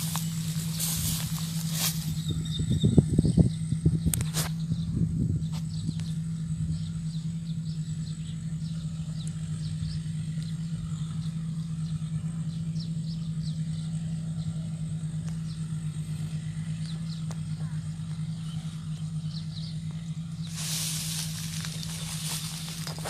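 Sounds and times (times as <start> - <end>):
harvester engine droning: 0.0 - 23.0.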